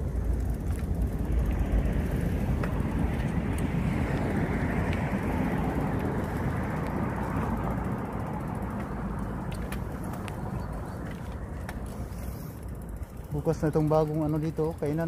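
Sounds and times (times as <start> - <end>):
wind rumble: 0.0 - 13.9
rolling road noise: 0.0 - 15.0.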